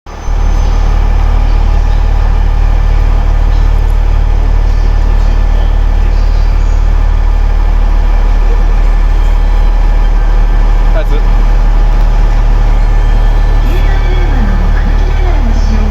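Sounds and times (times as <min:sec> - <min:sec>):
diesel railcar engines droning: 0:00.1 - 0:15.9.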